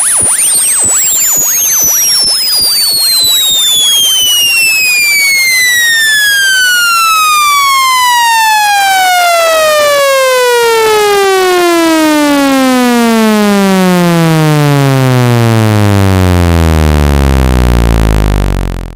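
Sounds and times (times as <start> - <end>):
buzzy electronic tone gliding down: 0.0 - 11.4, 13.6 - 18.9.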